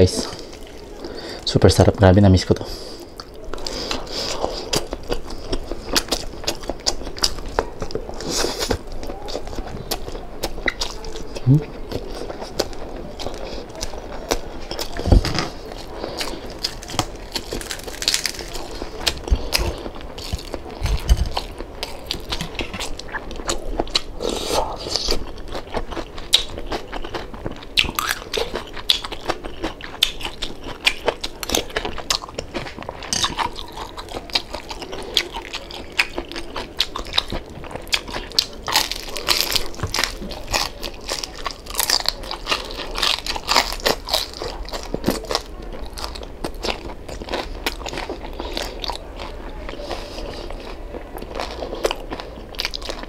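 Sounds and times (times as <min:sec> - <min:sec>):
crunching crispy skin: 0:02.8 - 0:53.0.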